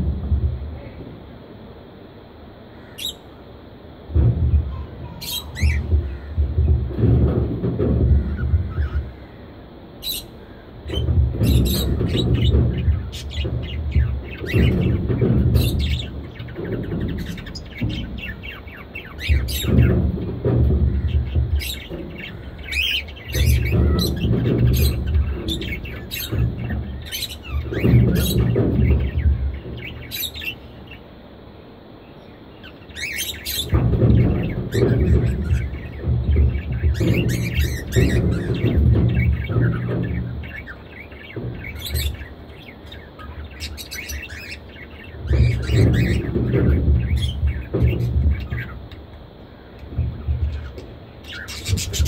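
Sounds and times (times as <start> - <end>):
budgerigars chirping: 2.7 - 3.4, 5.0 - 6.8, 10.0 - 31.1, 32.1 - 48.8, 50.2 - 52.0.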